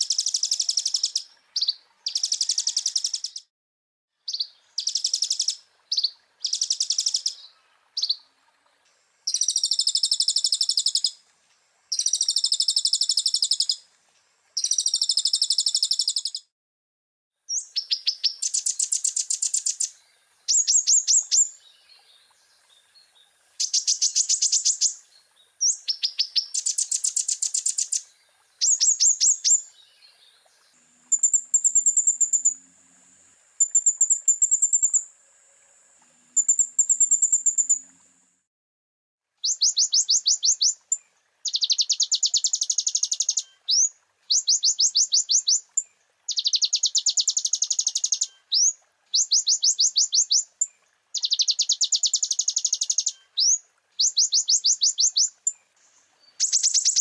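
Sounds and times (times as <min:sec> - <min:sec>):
bird trilling song: 0:00.0 - 0:03.5, 0:04.2 - 0:08.3, 0:09.3 - 0:11.2, 0:11.9 - 0:13.8, 0:14.6 - 0:16.5, 0:17.5 - 0:32.6, 0:33.6 - 0:35.1, 0:36.4 - 0:38.0, 0:39.4 - 0:57.0.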